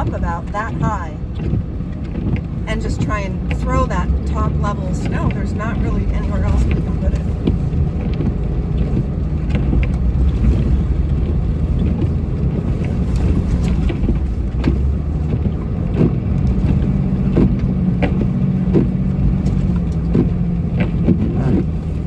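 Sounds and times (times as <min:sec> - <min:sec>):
knocks and clunks: 0:00.0 - 0:22.0
truck engine drone: 0:00.0 - 0:22.0.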